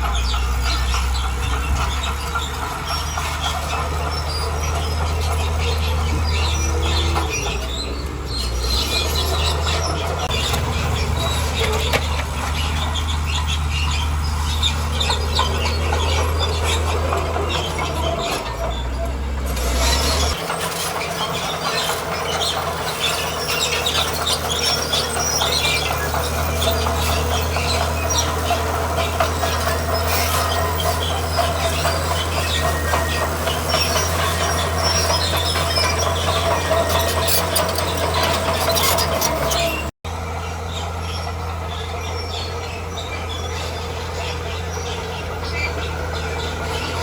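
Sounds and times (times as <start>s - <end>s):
diesel engine droning: 0.0s - 47.0s
steel tracks squealing and clanking: 0.0s - 47.0s.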